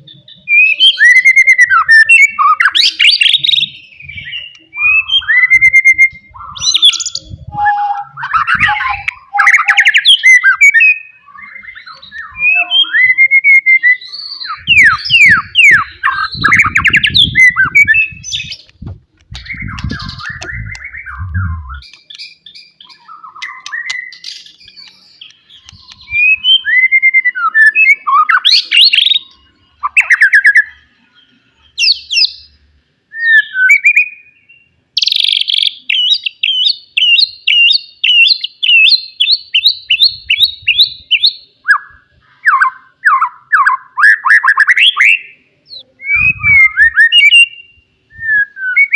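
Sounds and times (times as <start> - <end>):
bird singing whistled song: 0.0 - 18.7, 19.4 - 30.9, 31.6 - 48.9.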